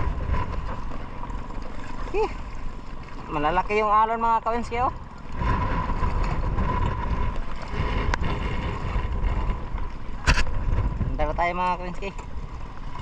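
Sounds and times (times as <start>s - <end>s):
waves washing against boat: 0.0s - 13.0s
wind buffeting microphone: 0.0s - 13.0s.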